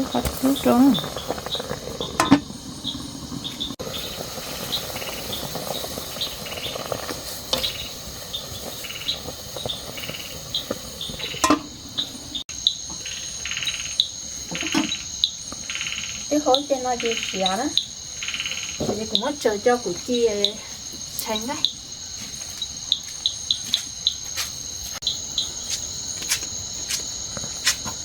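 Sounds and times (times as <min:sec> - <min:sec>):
insect buzzy trills: 0:00.0 - 0:28.0
insects chirping: 0:00.0 - 0:28.0.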